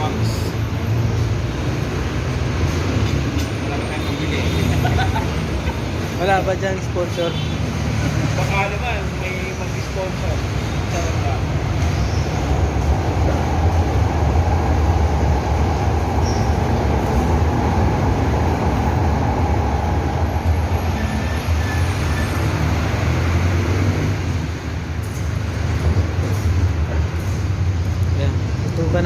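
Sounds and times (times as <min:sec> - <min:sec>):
vehicle rumble: 0:00.0 - 0:29.0.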